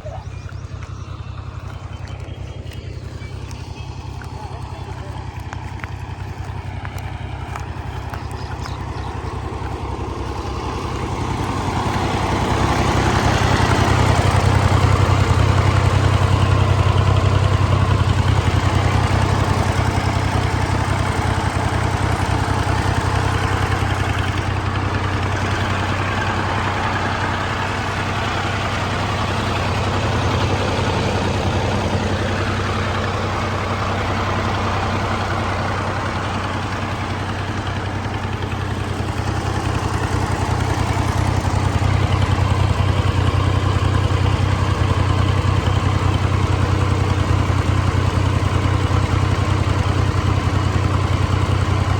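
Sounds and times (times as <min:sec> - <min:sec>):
diesel tractor engine drone: 0:00.0 - 0:51.9.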